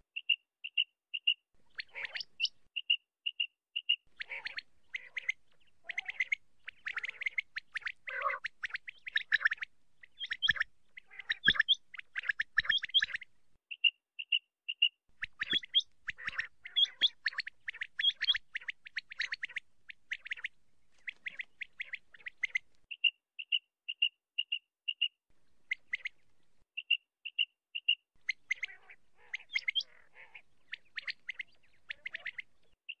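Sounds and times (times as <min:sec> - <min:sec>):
quail calling: 0:01.2 - 0:23.5, 0:25.6 - 0:26.2, 0:26.8 - 0:33.0.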